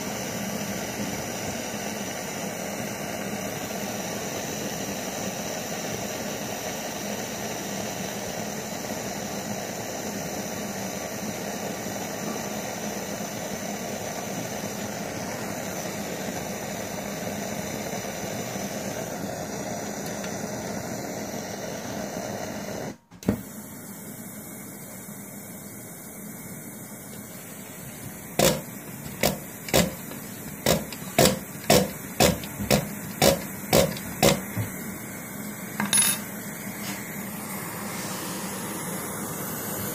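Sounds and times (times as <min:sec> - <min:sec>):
stove burner hissing: 0:00.0 - 0:39.9.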